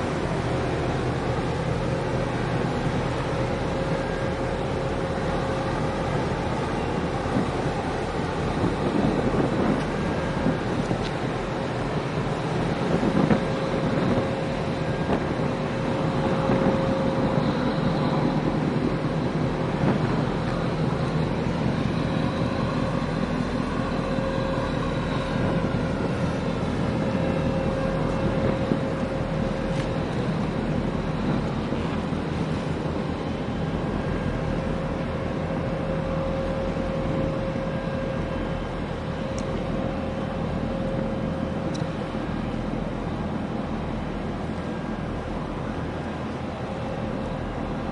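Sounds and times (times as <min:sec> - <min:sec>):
boat engines rumbling: 0:00.0 - 0:47.9
constant hum: 0:00.0 - 0:47.9
wind buffeting microphone: 0:00.0 - 0:47.9.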